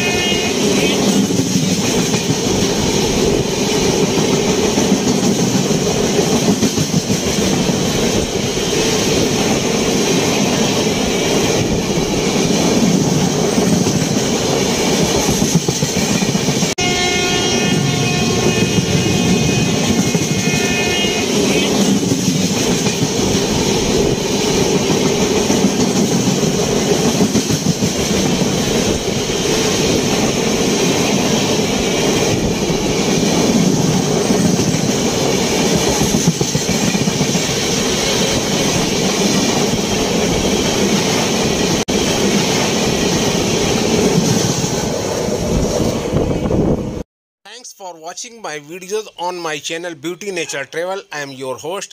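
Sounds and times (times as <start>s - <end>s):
train wheels rumbling clickety-clack: 0.0s - 46.8s.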